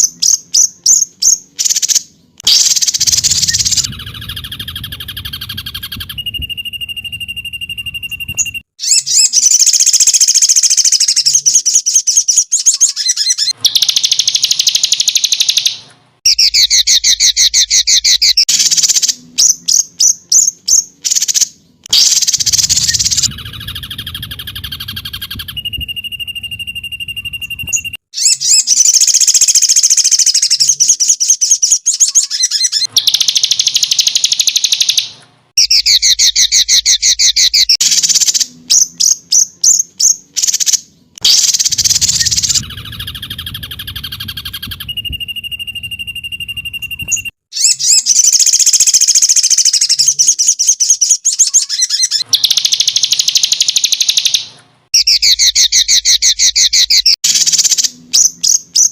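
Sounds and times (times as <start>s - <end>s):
songbird chirps and trills: 0.0s - 58.9s.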